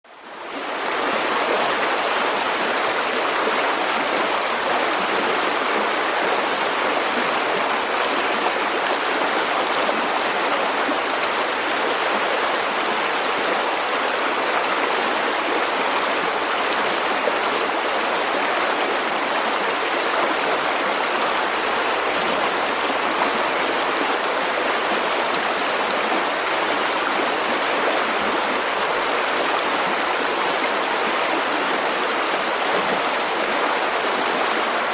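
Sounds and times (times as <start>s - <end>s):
river flowing over rocks: 0.1s - 34.9s.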